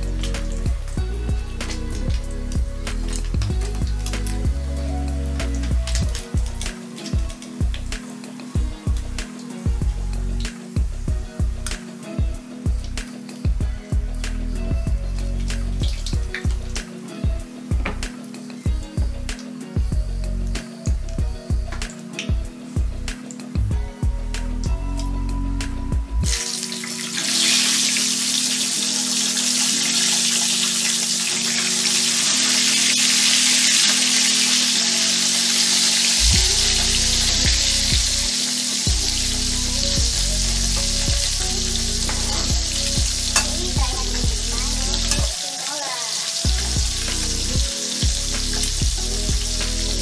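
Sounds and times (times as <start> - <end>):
fish sizzling in hot oil: 0.0 - 23.6, 24.9 - 50.0.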